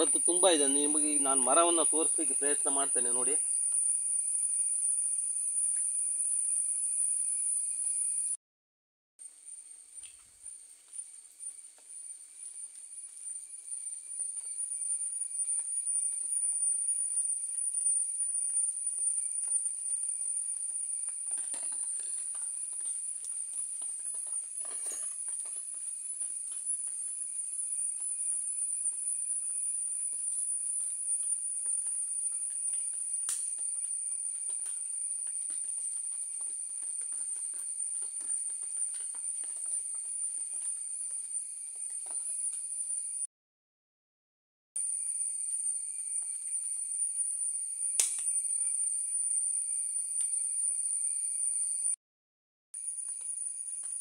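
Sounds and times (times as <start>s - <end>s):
insects droning: 0.0s - 8.4s, 9.2s - 43.3s, 44.8s - 52.0s, 52.8s - 54.0s.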